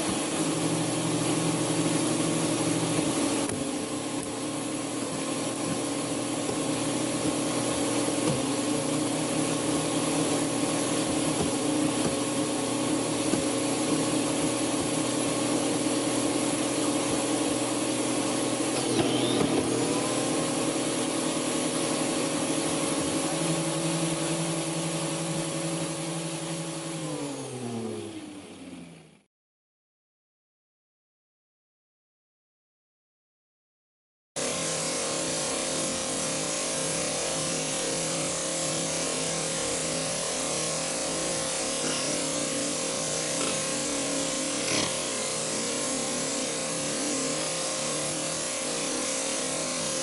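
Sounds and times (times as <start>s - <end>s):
grinder motor spinning: 0.0s - 29.2s, 34.4s - 50.0s.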